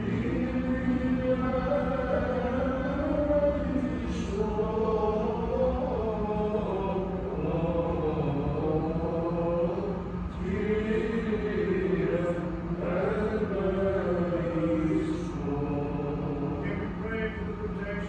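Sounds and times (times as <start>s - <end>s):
melismatic chant singing: 0.0s - 18.0s
steady low drone: 0.0s - 18.0s.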